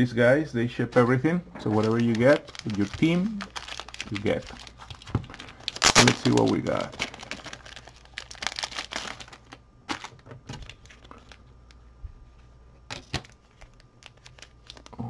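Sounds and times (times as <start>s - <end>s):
plastic card sleeves crinkling: 1.7s - 11.8s, 12.9s - 15.0s.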